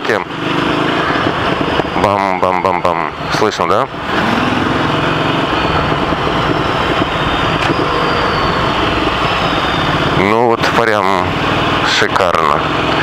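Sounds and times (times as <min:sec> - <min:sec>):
motorcycle engine running: 0:00.0 - 0:13.0
exhaust crack: 0:00.2 - 0:13.0.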